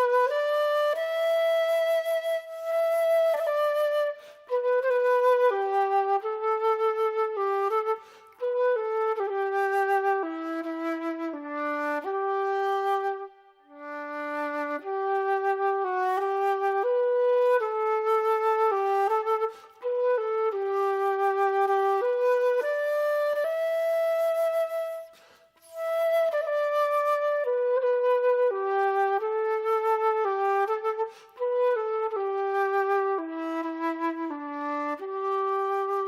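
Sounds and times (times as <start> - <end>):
solo flute melody: 0.0 - 36.0.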